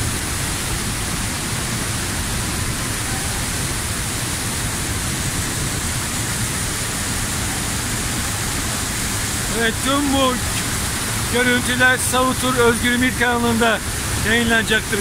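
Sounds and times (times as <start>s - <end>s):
waterfall crashing into pool: 0.0s - 15.0s.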